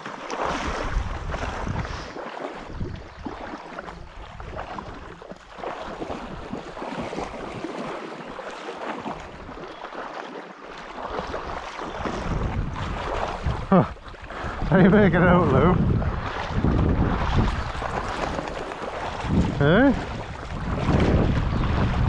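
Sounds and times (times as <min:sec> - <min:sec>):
dogs wading through water: 0:00.0 - 0:22.0
water splashing around canoe: 0:00.0 - 0:22.0.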